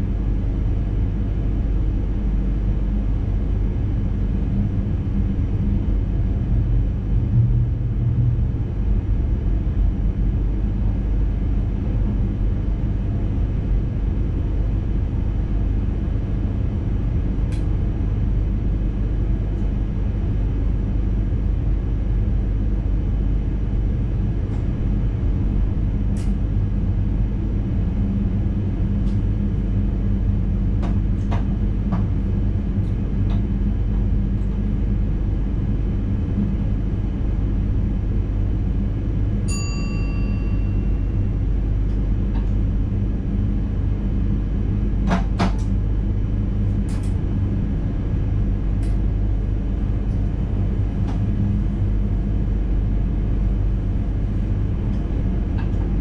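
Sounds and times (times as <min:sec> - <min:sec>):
low rumble of train on track: 0:00.0 - 0:56.0.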